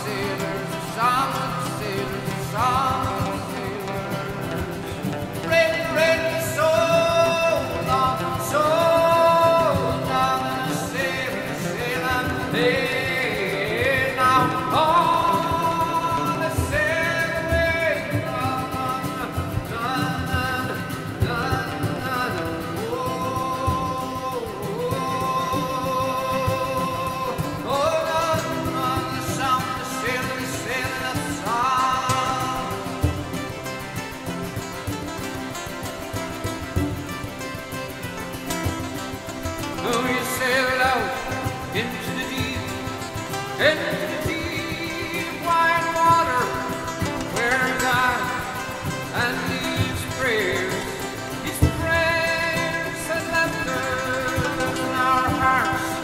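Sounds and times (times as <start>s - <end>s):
person singing slow melody: 0.0s - 34.2s, 39.7s - 56.0s
instrumental accompaniment: 0.0s - 56.0s.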